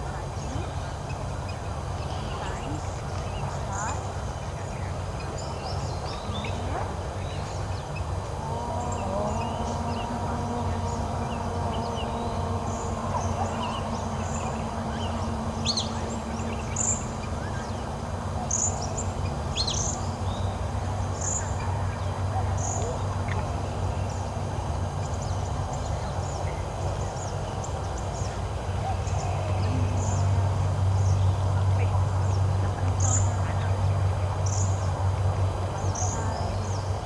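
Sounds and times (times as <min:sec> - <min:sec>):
birds chirping: 0:00.0 - 0:37.0
steady low rumble: 0:00.0 - 0:37.0
droning tone: 0:04.6 - 0:36.8.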